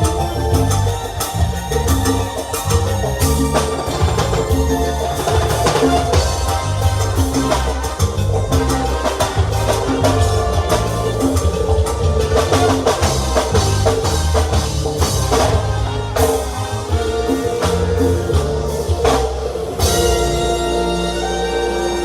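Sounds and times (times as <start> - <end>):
drum kit: 0.0 - 22.0
live band playing cumbia: 0.0 - 22.0.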